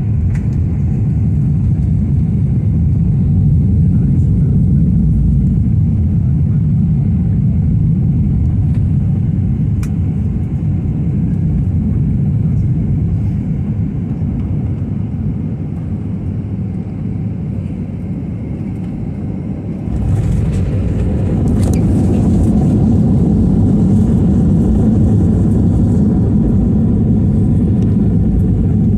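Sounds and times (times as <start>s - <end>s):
airplane cabin rumble: 0.0s - 28.9s.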